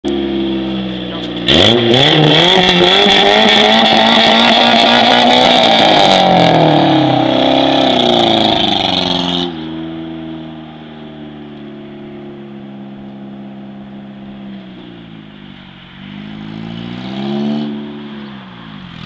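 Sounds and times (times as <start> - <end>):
car engine revving: 0.1 - 19.0.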